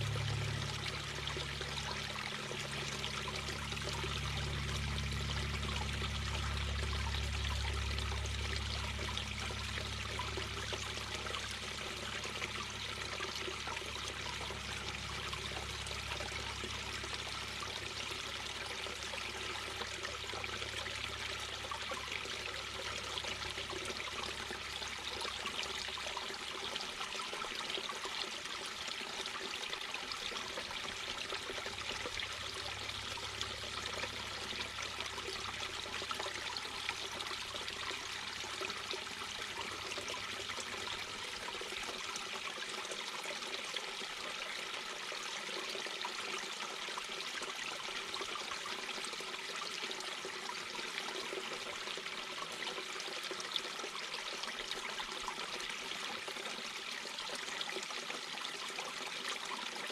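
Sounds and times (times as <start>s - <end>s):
brook babbling over rocks: 0.0s - 59.9s.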